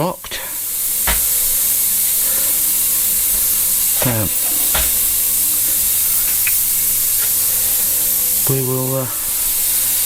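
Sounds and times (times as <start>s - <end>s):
loud steady hiss: 0.0s - 10.0s.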